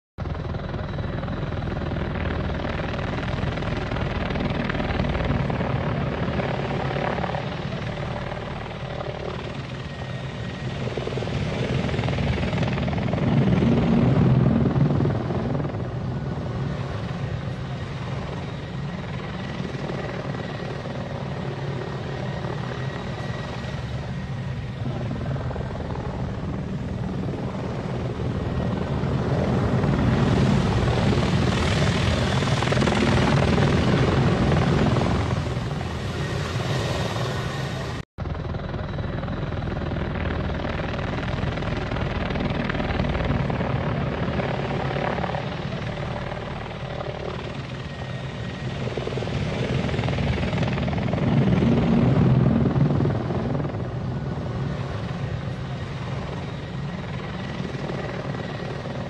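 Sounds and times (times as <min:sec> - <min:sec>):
helicopter flying: 0:00.2 - 0:59.0.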